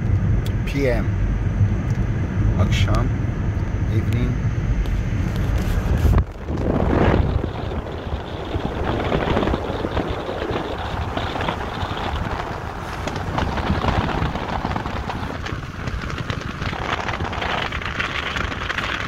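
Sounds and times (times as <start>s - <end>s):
tyre and road rumble: 0.0s - 19.0s
wind buffeting microphone: 0.0s - 19.0s.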